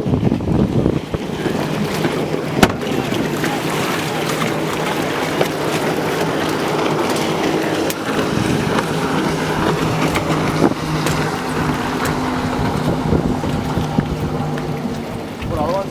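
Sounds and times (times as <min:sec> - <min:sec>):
jet ski engine drone: 0:00.0 - 0:15.9
water rushing noise: 0:00.0 - 0:15.9.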